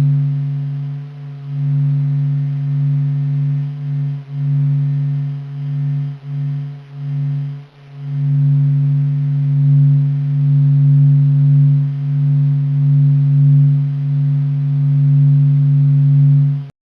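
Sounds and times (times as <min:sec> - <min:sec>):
low humming drone with overtones: 0:00.0 - 0:16.7.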